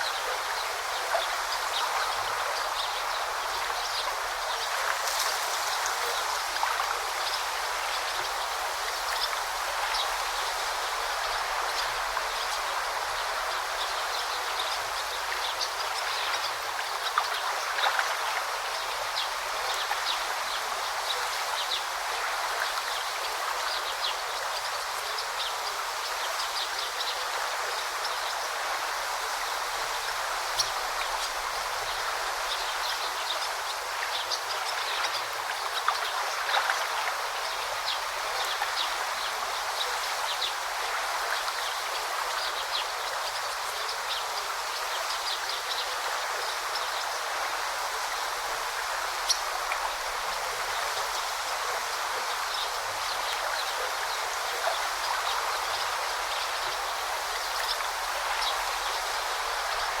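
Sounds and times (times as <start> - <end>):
river rushing and babbling: 0.0 - 60.0.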